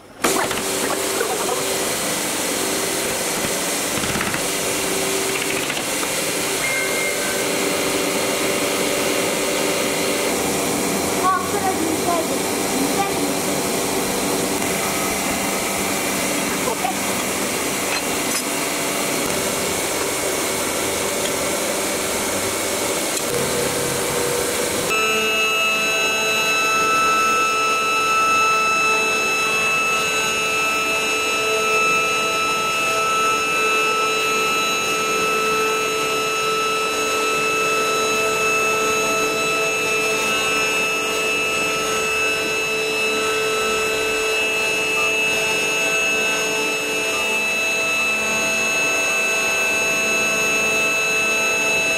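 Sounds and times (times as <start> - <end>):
router spindle whine: 0.0 - 51.9.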